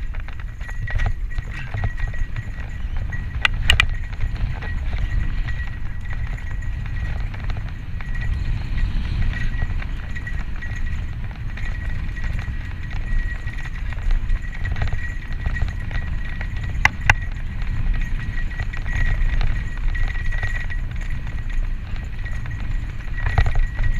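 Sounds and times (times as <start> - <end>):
bike rattling and clattering: 0.0 - 23.9
bike tyres rumbling on dirt: 0.0 - 23.9
wind on microphone: 0.0 - 23.9.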